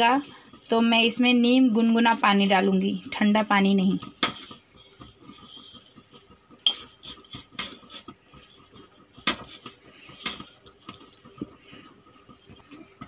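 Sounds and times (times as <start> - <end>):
hand rubbing flour in bowl: 0.0 - 13.0
metallic clinks against bowl: 0.8 - 11.6.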